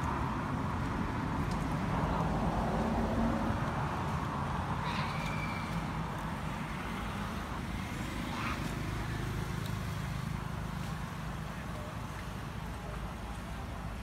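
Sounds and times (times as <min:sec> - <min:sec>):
low outdoor rumble with hiss: 0:00.0 - 0:14.0.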